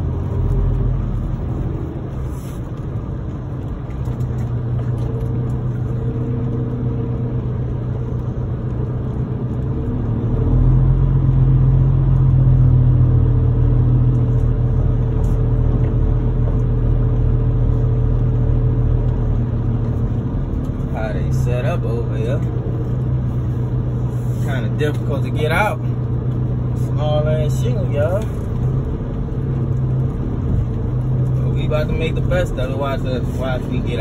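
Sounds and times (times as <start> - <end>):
diesel truck engine rumbling: 0.0 - 34.0.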